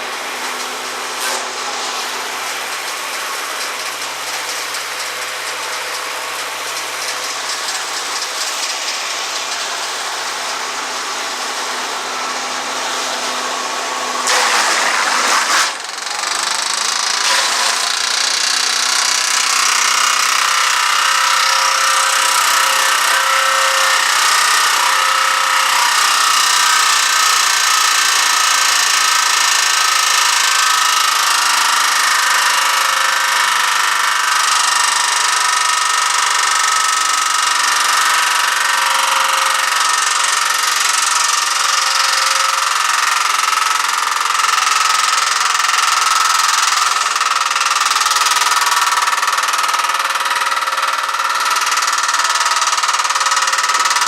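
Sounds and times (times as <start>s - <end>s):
small gasoline engine running: 0.0s - 54.0s.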